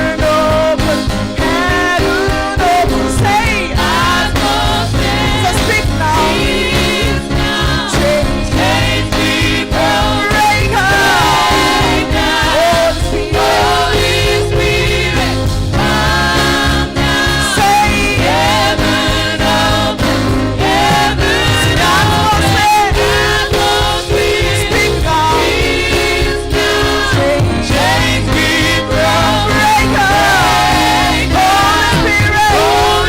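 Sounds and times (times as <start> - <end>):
gospel choir singing: 0.0 - 33.0
instrumental backing beat: 0.0 - 33.0.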